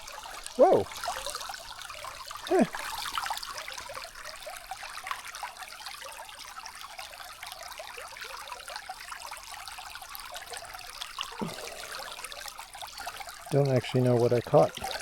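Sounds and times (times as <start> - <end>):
creek trickling over shallows: 0.0 - 15.0.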